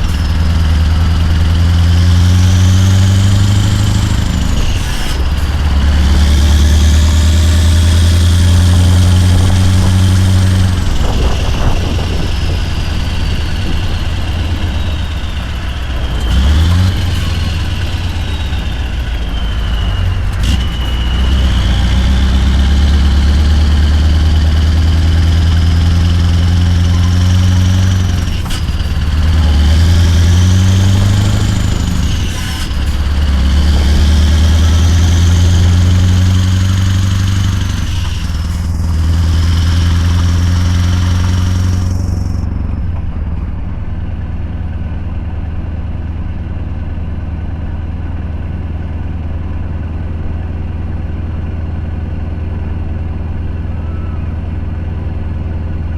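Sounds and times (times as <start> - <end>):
loud deep diesel engine: 0.0 - 55.9.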